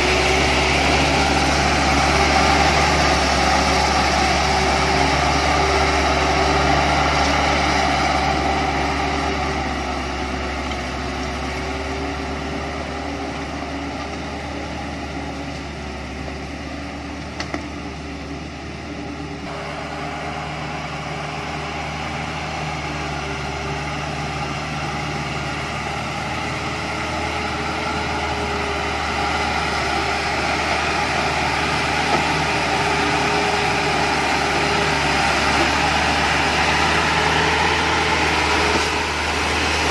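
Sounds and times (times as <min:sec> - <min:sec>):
diesel truck engine under load: 0:00.0 - 0:39.9.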